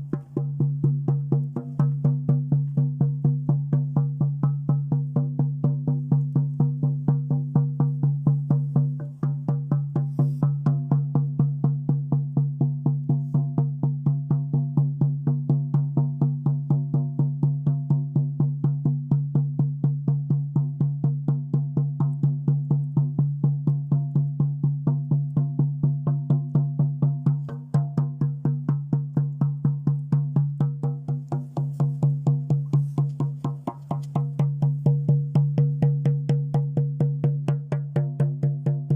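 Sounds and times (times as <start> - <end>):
drum beaten fast: 0.0 - 38.9.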